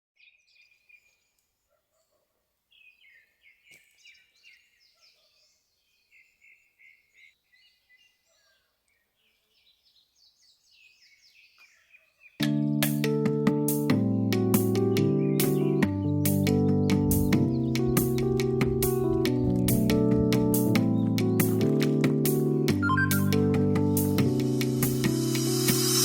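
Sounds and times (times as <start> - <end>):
faint birdsong: 0.2 - 12.7, 14.1 - 24.8.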